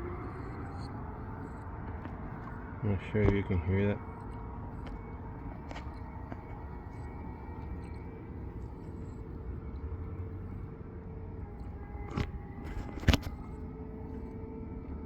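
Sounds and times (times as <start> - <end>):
air conditioning hum: 0.0 - 15.0
faint steady tones: 0.0 - 15.0.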